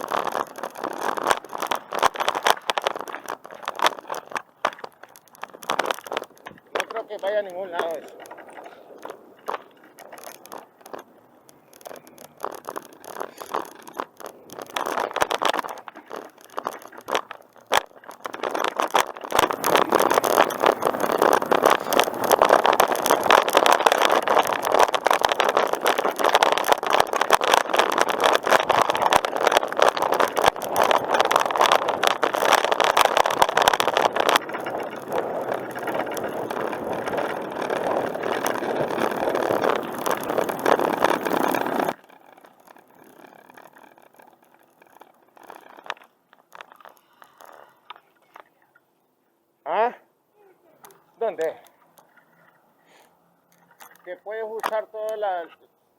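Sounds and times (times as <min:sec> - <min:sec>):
bicycle rattle: 0:00.0 - 0:48.9, 0:50.8 - 0:55.7
bicycle rolling on pavement: 0:00.0 - 0:49.2, 0:50.6 - 0:55.8.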